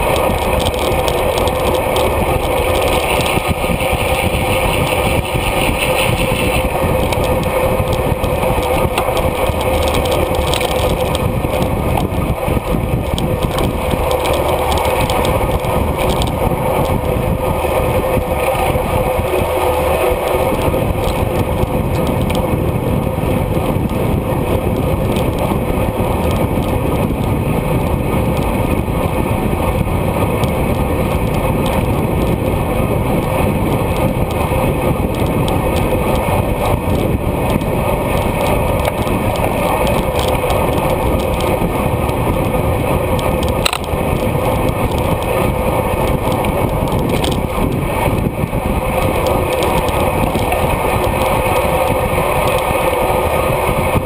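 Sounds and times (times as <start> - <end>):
bicycle tyre noise: 0.0 - 54.0
loud wind rush: 0.0 - 54.0.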